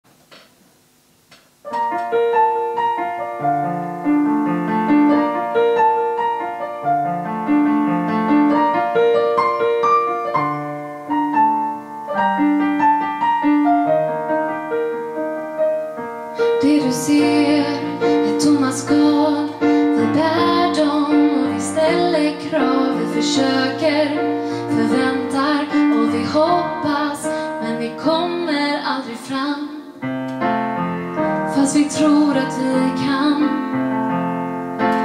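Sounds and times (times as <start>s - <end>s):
solo piano broken chords: 1.4s - 29.0s, 30.0s - 35.0s.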